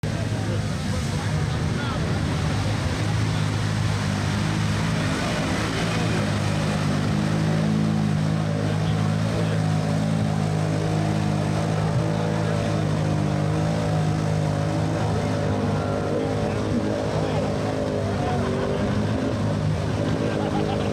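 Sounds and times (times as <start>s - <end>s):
engine running steadily: 0.0s - 20.9s.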